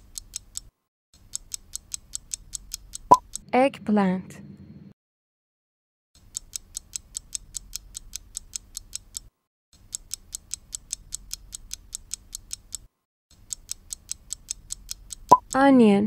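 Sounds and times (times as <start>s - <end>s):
fast clock ticks: 0.0s - 3.5s, 6.2s - 15.6s.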